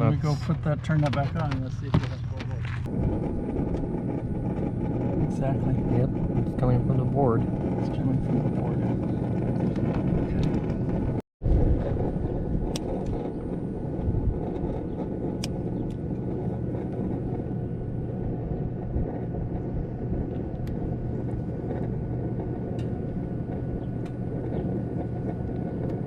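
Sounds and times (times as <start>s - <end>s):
low rumbling hum: 0.0s - 26.0s.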